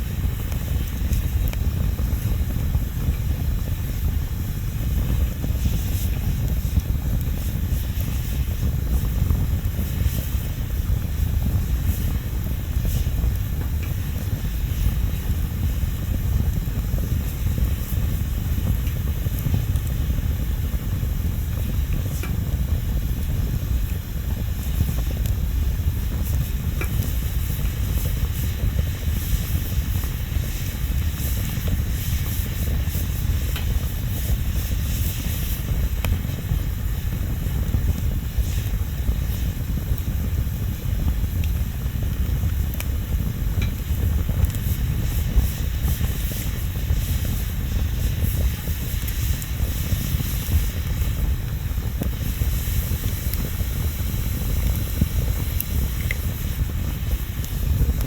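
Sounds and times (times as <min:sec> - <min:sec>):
bonfire burning and crackling: 0:00.0 - 0:58.0.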